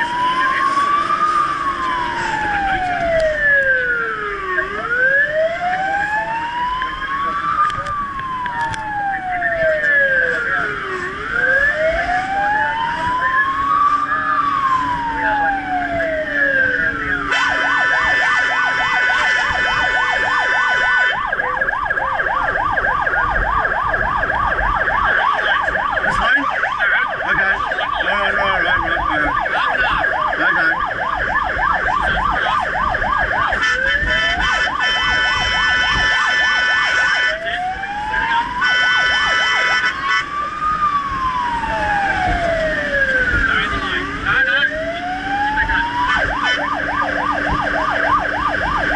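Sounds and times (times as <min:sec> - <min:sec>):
electronic siren wailing and yelping: 0:00.0 - 0:48.9
steady blaring horn tone: 0:00.0 - 0:48.9.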